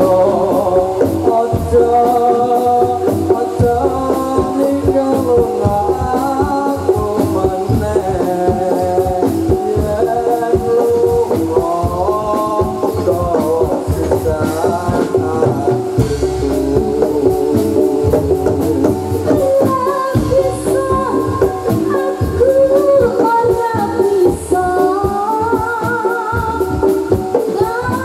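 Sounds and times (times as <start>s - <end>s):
drums: 0.0s - 28.0s
person singing: 0.0s - 28.0s.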